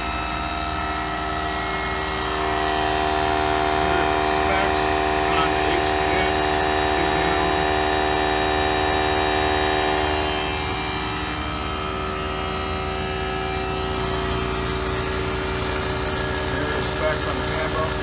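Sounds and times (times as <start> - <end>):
air compressors humming: 0.0 - 18.0.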